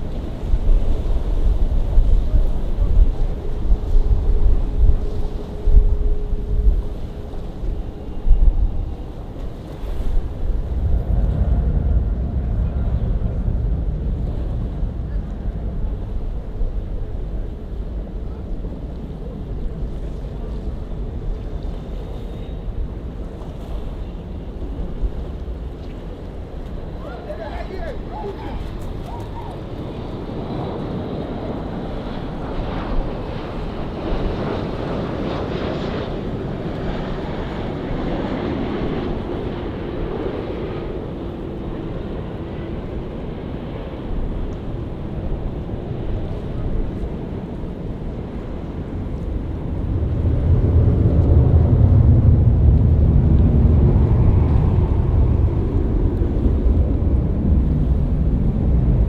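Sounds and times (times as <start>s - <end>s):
jet airliner engines running: 0.0s - 59.0s.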